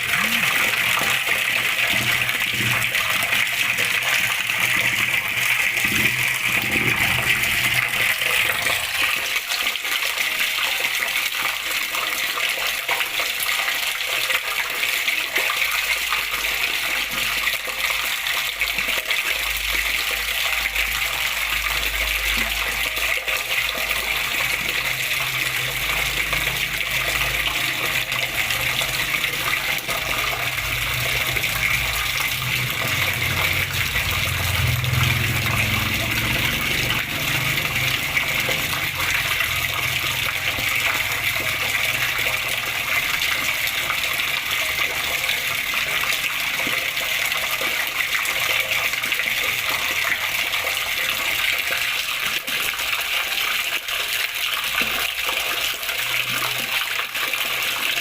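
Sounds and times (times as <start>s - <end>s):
water flowing and splashing: 0.0s - 58.0s.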